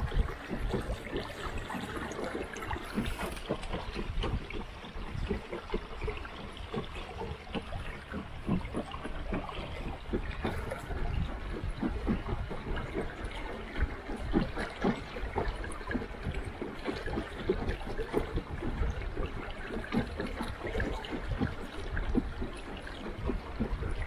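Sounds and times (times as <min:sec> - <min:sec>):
water lapping against boat hull: 0:00.0 - 0:24.0.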